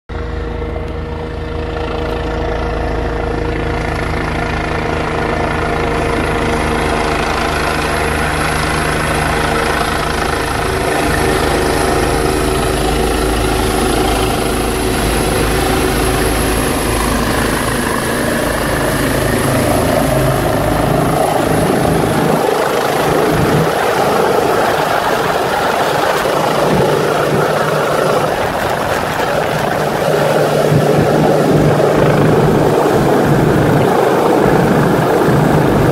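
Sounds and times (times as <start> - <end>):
helicopter rotor and turbine: 0.1 - 35.9.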